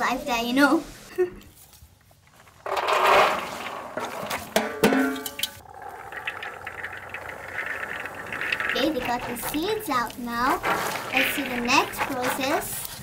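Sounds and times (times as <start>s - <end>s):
seeds pouring into metal basin: 2.6s - 13.0s.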